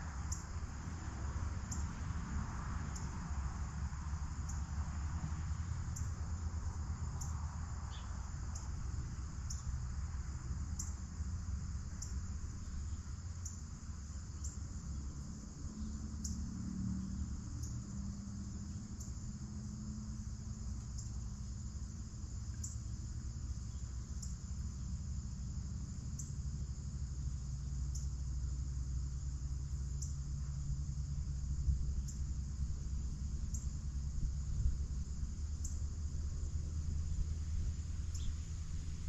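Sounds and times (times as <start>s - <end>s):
cricket chirping: 0.0s - 39.0s
faint hum: 0.0s - 39.0s
low outdoor rumble: 0.0s - 39.0s.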